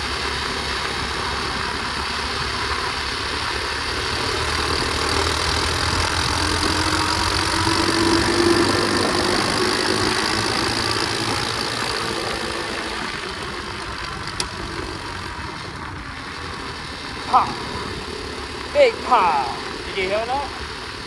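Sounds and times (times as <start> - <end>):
motorbike engine running: 0.0 - 21.0
riding noise hiss: 0.0 - 21.0.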